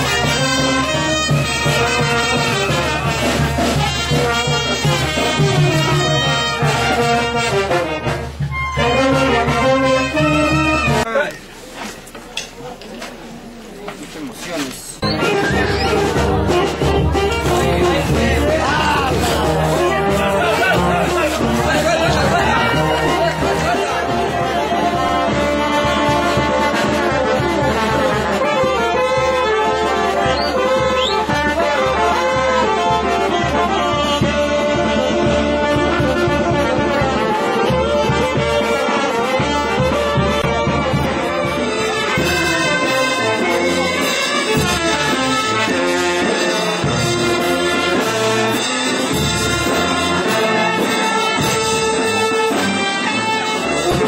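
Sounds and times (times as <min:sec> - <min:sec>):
brass band playing: 0:00.0 - 0:11.6, 0:15.0 - 0:54.0.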